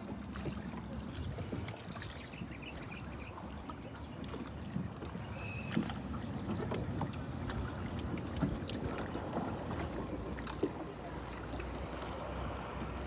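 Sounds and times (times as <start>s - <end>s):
low rumble of water and air: 0.0s - 13.0s
paddle strokes through water: 0.0s - 13.0s.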